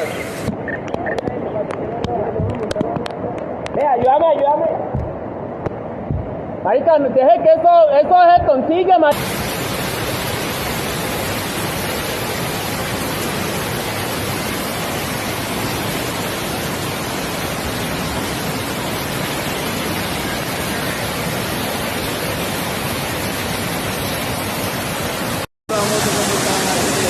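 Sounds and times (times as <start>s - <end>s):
floodwater rushing: 0.0s - 27.0s
heavy rain: 0.0s - 27.0s.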